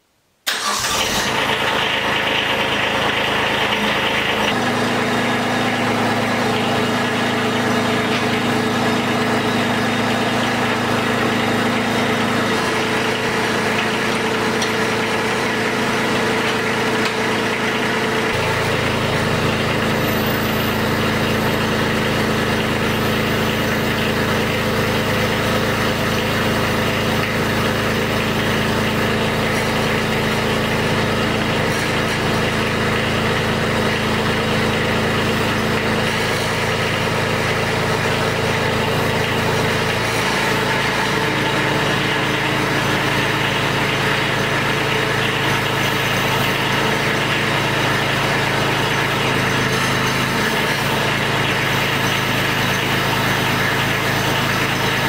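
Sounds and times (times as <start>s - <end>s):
hydraulics working: 0.5s - 55.0s
tractor diesel engine running: 0.5s - 55.0s.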